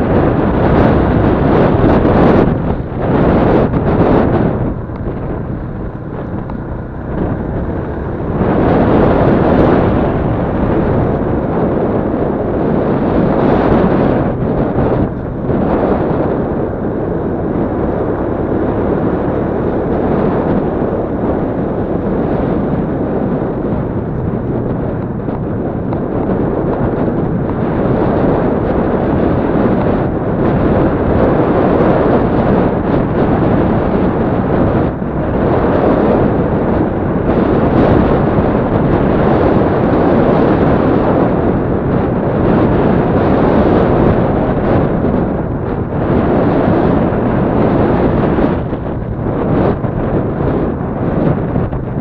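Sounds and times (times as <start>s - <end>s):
motorcycle engine running: 0.0s - 52.0s
wind buffeting microphone: 0.0s - 52.0s.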